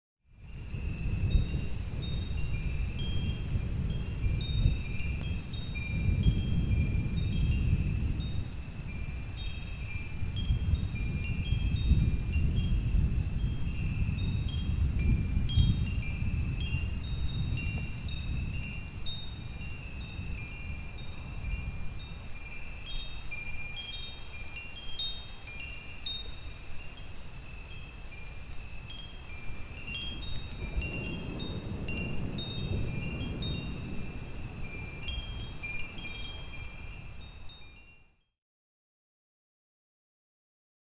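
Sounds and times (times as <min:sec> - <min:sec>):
wind chimes tinkling: 0:00.4 - 0:38.3.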